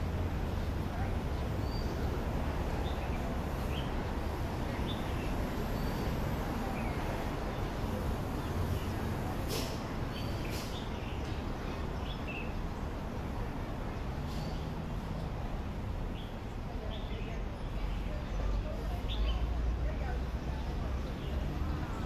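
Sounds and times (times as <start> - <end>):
low city rumble: 0.0 - 22.0.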